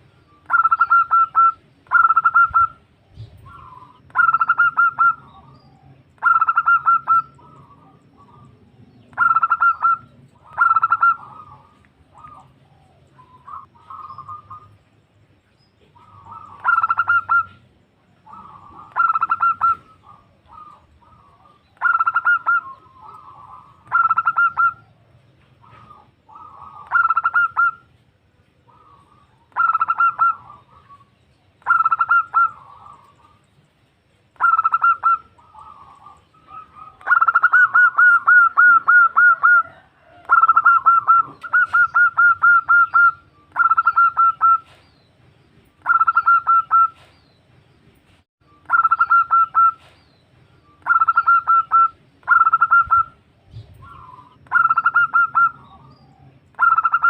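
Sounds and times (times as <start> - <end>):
dove cooing: 0.0 - 14.8, 15.8 - 28.0, 28.6 - 33.4, 34.4 - 44.8, 45.8 - 47.2, 48.7 - 50.0, 50.7 - 57.0.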